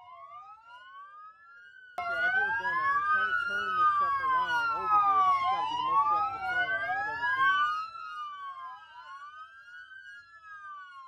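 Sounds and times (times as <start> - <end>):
police sirens wailing: 0.0 - 11.0.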